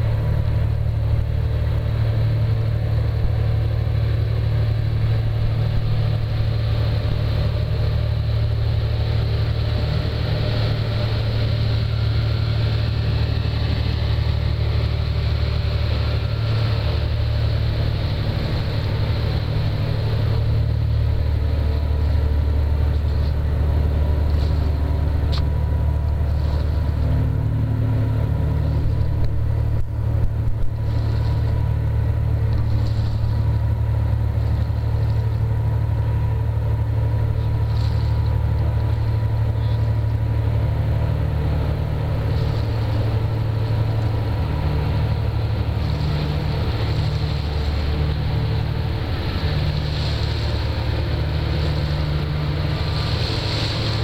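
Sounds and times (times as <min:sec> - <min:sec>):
boat engine drone: 0:00.0 - 0:54.0
rushing water: 0:00.0 - 0:54.0.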